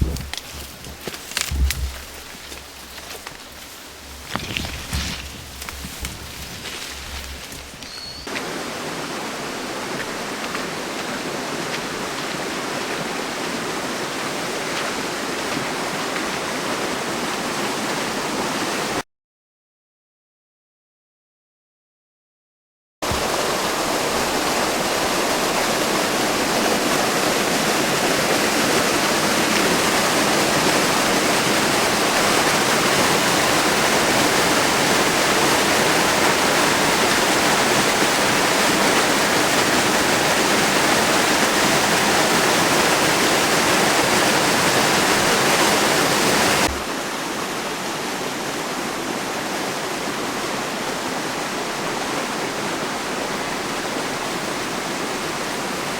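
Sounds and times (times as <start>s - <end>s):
waterfall rushing: 0.0s - 19.0s, 23.0s - 55.9s.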